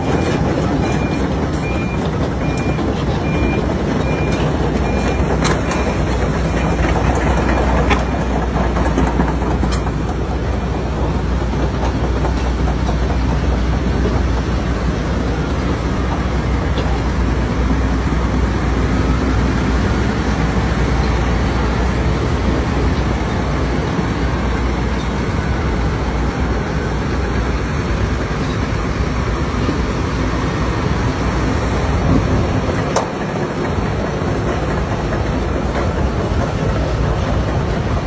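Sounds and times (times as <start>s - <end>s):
heavy vehicle rumbling: 0.0s - 38.0s.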